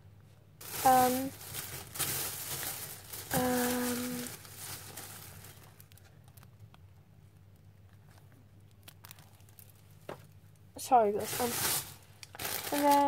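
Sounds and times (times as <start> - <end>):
packaging crinkling: 0.6 - 6.7, 8.0 - 10.6, 11.2 - 13.0.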